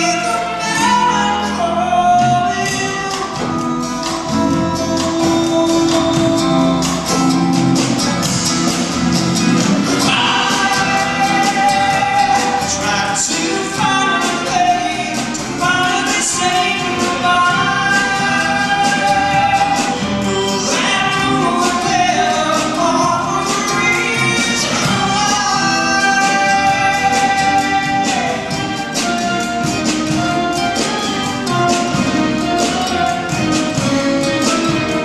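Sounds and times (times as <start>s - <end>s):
acoustic guitar: 0.0s - 35.0s
orchestra strings: 0.0s - 35.0s.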